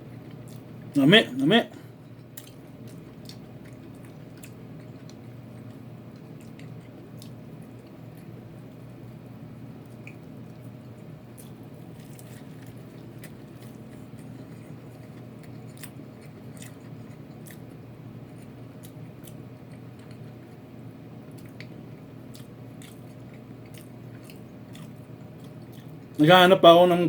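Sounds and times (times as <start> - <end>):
crunchy chewing of fried chicken: 0.0 - 27.0
steady low hum: 0.0 - 27.0.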